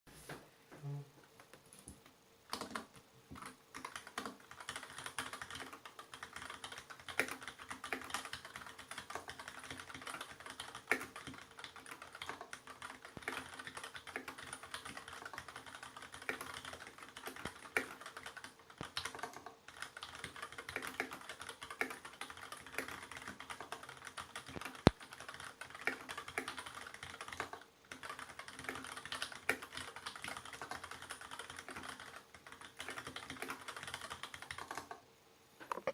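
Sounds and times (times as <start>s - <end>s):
mechanical keyboard typing: 2.5s - 35.0s.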